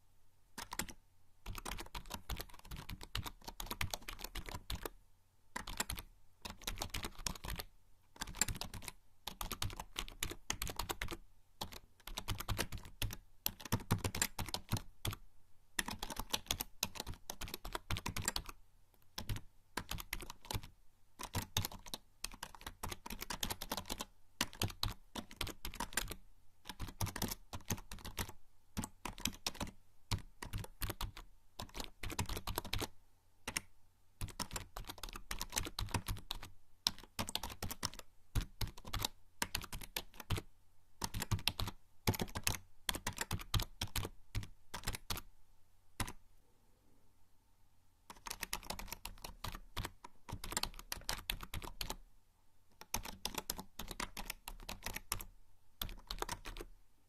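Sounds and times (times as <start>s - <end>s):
typing on computer keyboard: 0.6s - 5.0s, 5.6s - 15.2s, 15.8s - 18.6s, 19.2s - 32.9s, 33.5s - 45.3s, 48.1s - 52.0s, 52.8s - 56.7s.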